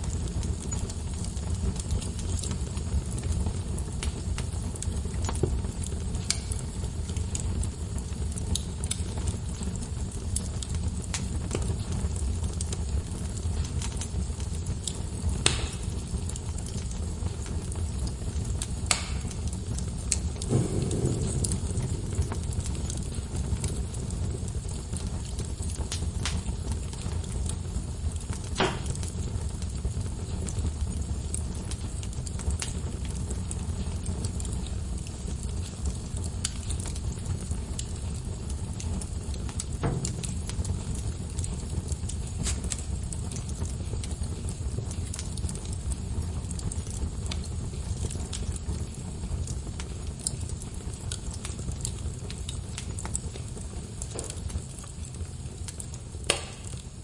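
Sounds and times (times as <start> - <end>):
logs crackling and popping: 0.0 - 57.0
low rumble of flames: 0.0 - 57.0.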